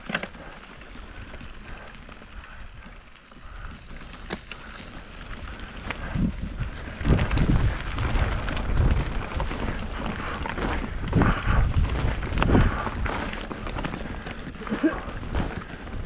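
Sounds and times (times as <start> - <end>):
bike rattling over bumps: 0.0 - 16.0
bike tyres crunching on stones: 0.0 - 16.0.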